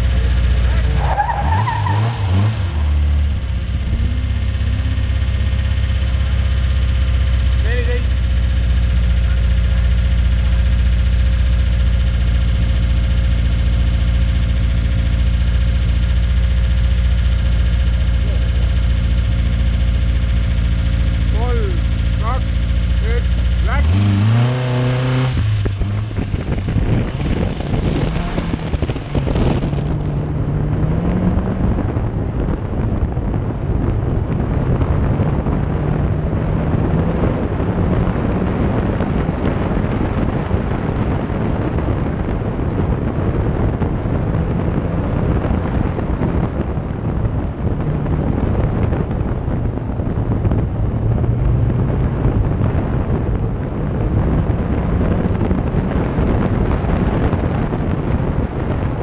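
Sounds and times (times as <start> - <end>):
car engine accelerating through gears: 0.0 - 59.0
wind noise on microphone: 8.2 - 59.0.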